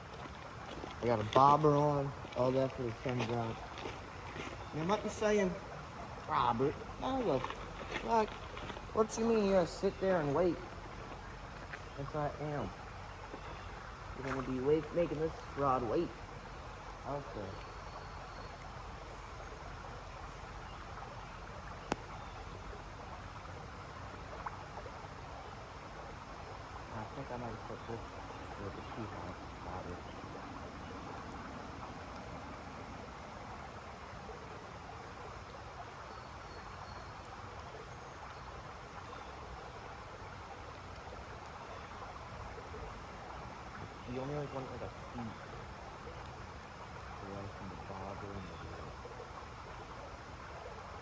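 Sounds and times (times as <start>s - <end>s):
light rain falling: 0.0s - 51.0s
outdoor background hiss: 0.0s - 51.0s.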